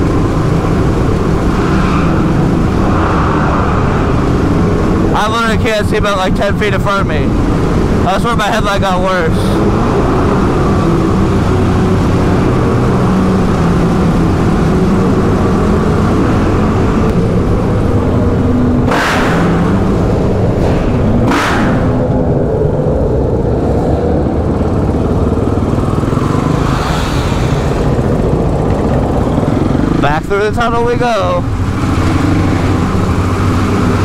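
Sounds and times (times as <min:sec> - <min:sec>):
motorcycle engine running: 0:06.6 - 0:34.0.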